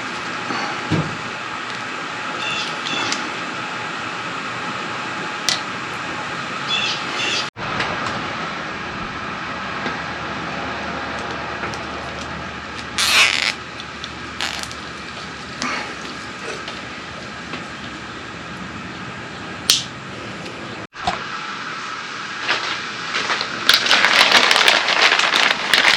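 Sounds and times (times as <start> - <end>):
steady background hum: 0.0 - 25.9.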